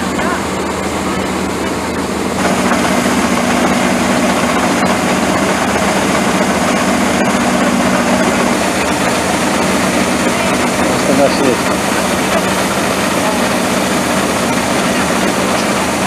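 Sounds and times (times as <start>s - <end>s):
harvesting machine engine droning: 0.0s - 16.0s.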